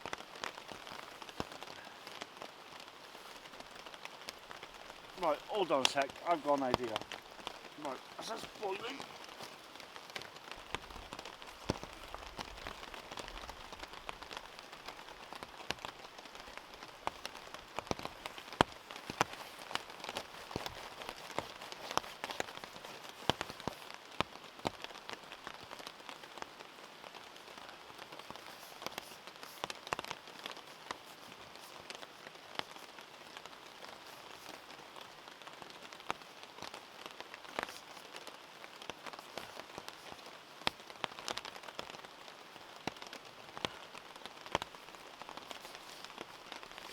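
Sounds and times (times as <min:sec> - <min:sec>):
raindrops tapping close: 0:00.0 - 0:46.9
steady rain: 0:00.0 - 0:46.9.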